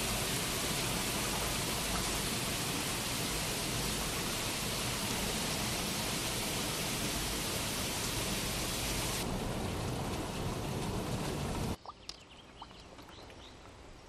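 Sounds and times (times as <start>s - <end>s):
hot tub jets churning water: 0.0s - 11.8s.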